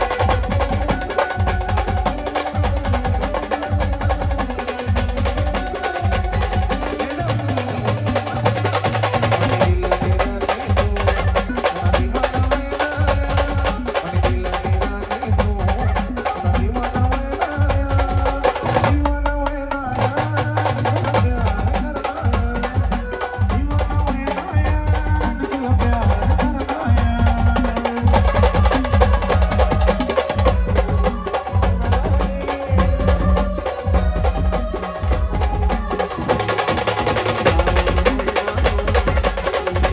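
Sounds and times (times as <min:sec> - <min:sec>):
fast heavy drumming: 0:00.0 - 0:39.9.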